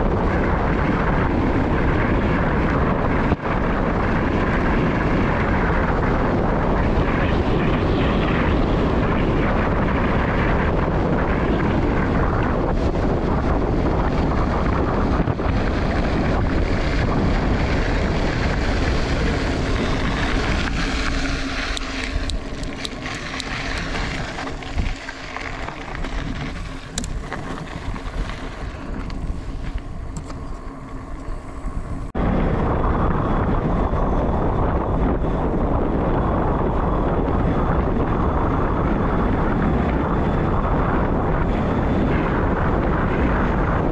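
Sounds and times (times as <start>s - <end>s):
steady low hum: 0.0s - 43.9s
wind buffeting microphone: 0.0s - 43.9s.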